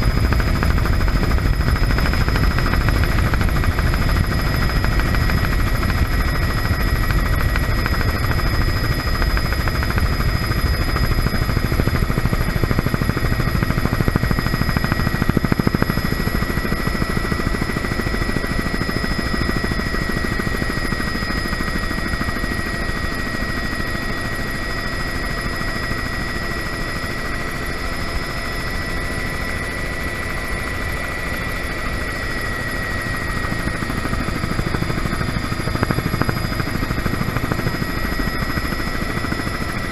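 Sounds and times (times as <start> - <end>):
helicopter rotor rumble: 0.0 - 39.9
helicopter turbine whine: 0.0 - 39.9.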